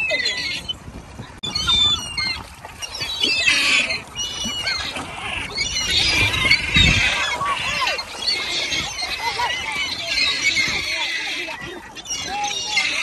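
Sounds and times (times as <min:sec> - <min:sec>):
gulls squawking: 0:00.0 - 0:13.0.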